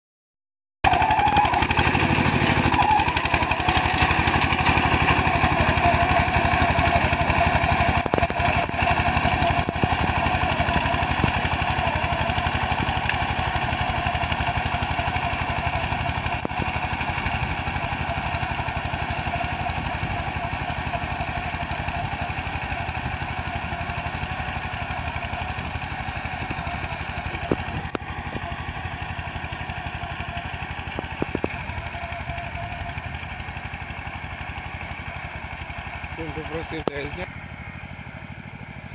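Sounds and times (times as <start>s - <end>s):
tractor engine with rotary tiller: 0.8s - 38.9s.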